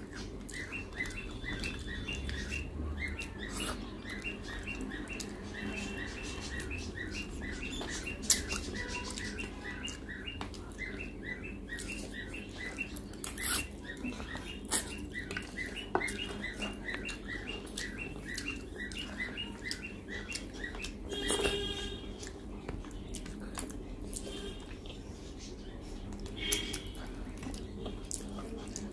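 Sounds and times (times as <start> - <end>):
steady high chirping: 0.0 - 23.2.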